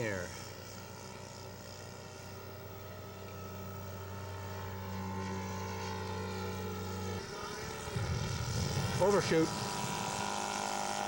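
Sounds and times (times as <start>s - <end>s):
model airplane engine drone: 0.0s - 11.0s.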